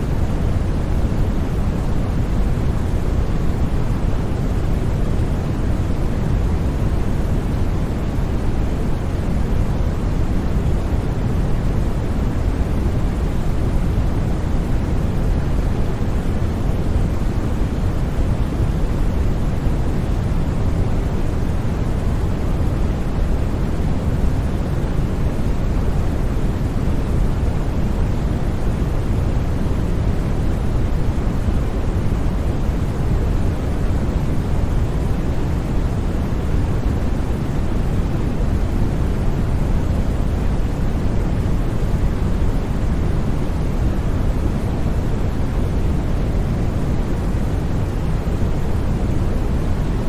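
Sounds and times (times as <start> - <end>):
deep rumbly white noise: 0.0 - 50.0.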